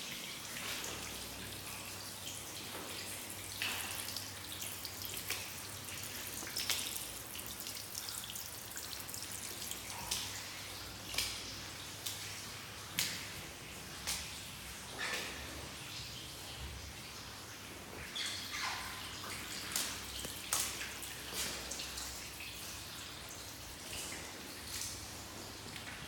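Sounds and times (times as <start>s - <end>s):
water dripping and splashing on stairs: 0.0s - 26.0s.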